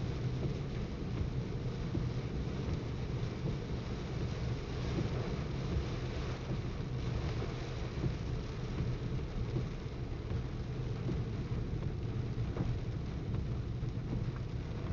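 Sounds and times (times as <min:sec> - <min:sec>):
car driving on wet road: 0:00.0 - 0:14.9
heavy rain on vehicle: 0:00.0 - 0:14.9.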